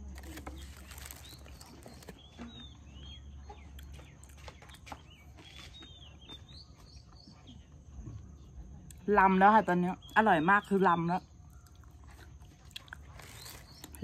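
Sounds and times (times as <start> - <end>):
birds chirping faintly: 0.0 - 14.0
low outdoor background rumble: 0.0 - 14.0.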